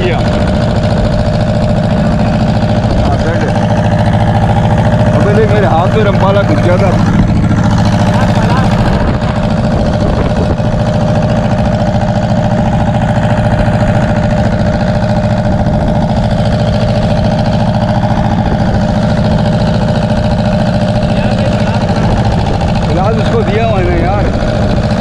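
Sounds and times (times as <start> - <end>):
boat diesel engine chugging: 0.0 - 25.0.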